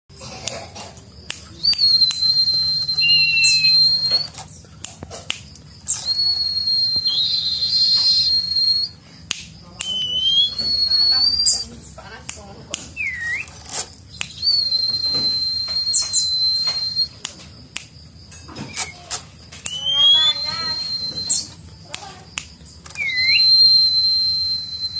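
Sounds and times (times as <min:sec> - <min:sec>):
songbird singing: 0:00.1 - 0:24.9.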